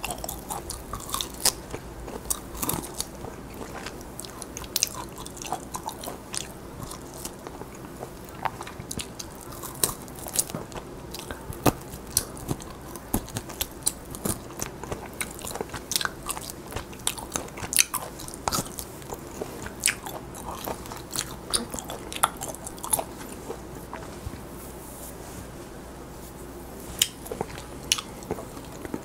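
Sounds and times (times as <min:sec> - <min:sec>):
chewing meat off bone: 0:00.0 - 0:24.1, 0:27.0 - 0:29.0.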